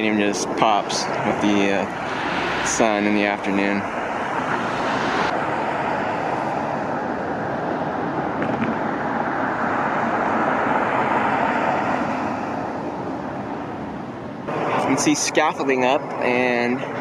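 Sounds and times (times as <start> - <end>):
passing vehicles rushing: 0.0 - 17.0.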